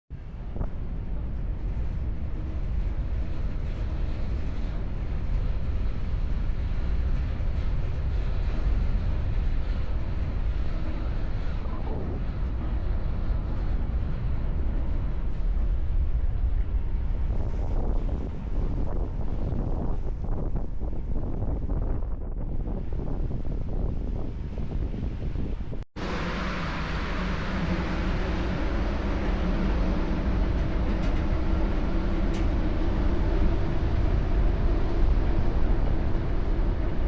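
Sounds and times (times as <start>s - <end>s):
rush of the sea: 0.2s - 37.0s
wind buffeting microphone: 0.2s - 37.0s.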